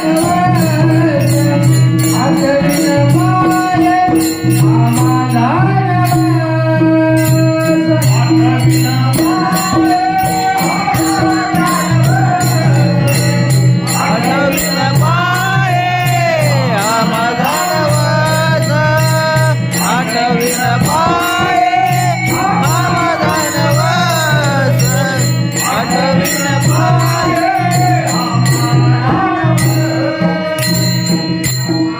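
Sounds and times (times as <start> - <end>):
man singing: 0.0 - 31.1
harmonium drone: 0.0 - 31.9
jingling metallic percussion: 0.0 - 31.9.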